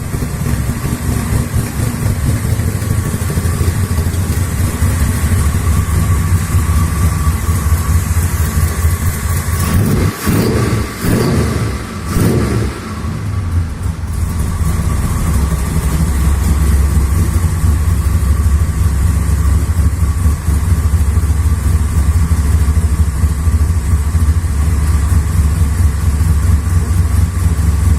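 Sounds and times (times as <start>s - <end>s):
engine revving and idling: 0.0s - 27.9s.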